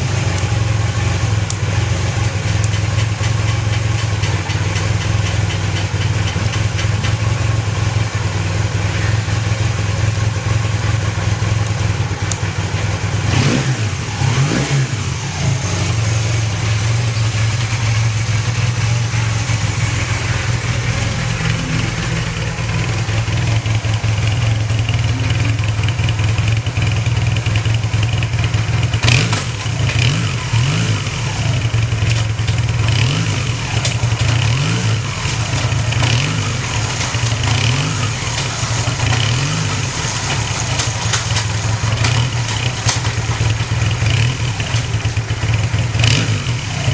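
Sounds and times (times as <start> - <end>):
engine throttle blips: 0.0 - 46.9
motorcycle engine idling: 0.0 - 46.9.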